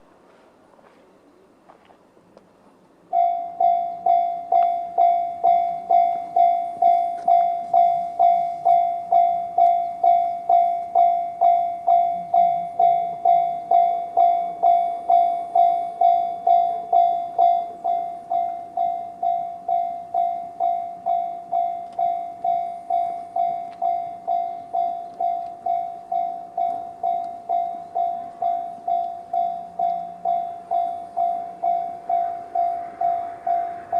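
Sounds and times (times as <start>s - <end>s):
level crossing electronic bell: 3.2s - 33.9s.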